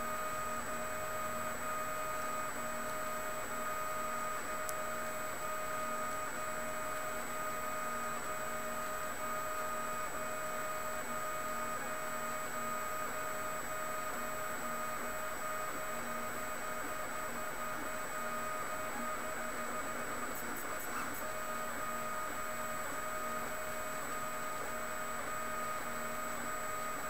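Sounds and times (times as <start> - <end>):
printer stepper motors whining: 0.0 - 27.0.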